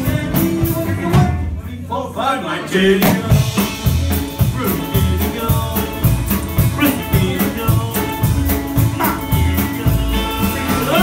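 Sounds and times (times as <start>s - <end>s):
drum kit with cymbals: 0.0s - 1.9s, 2.8s - 11.0s
upright double bass: 0.0s - 11.0s.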